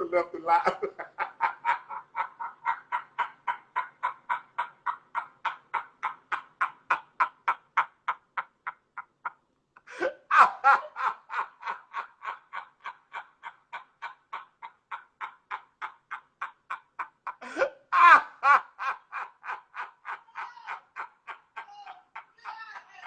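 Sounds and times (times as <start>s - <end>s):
man laughing hard: 0.0s - 23.0s.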